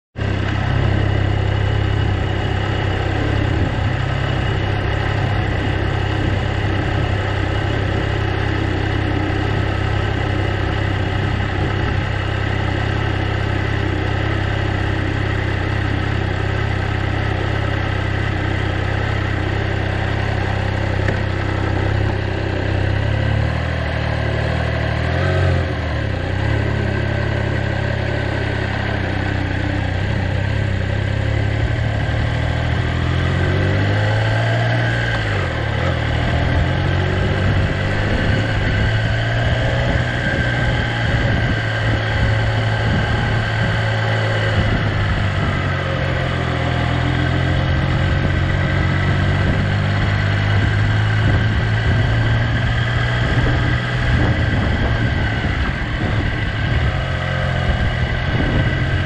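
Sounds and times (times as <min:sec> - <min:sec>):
motorcycle engine idling: 0:00.2 - 0:59.0
motorcycle pulling away: 0:00.2 - 0:59.0.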